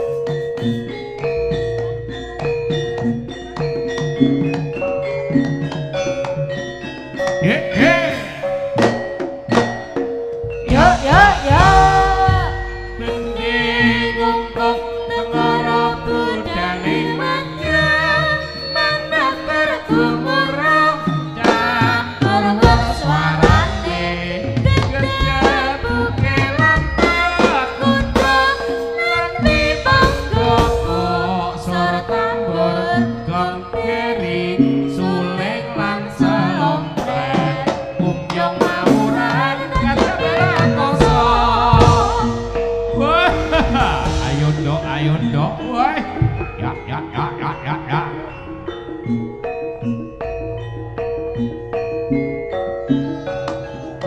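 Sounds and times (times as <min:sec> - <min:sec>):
hand drums: 0:00.0 - 0:17.8, 0:21.1 - 0:32.3, 0:35.8 - 0:54.0
gamelan-style percussion: 0:00.0 - 0:54.0
wavering melody line: 0:00.0 - 0:54.0.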